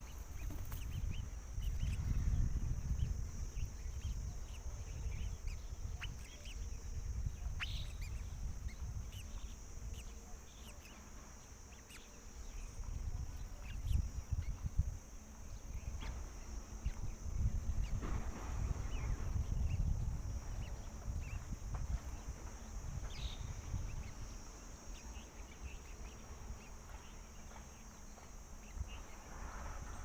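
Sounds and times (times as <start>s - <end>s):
bird chirps: 0.0s - 30.0s
steady high hiss: 0.0s - 30.0s.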